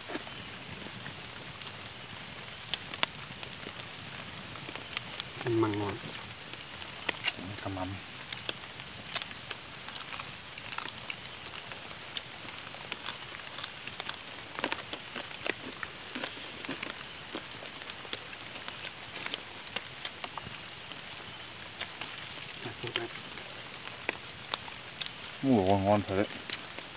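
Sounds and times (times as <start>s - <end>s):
rain falling on leaves: 0.0s - 26.9s.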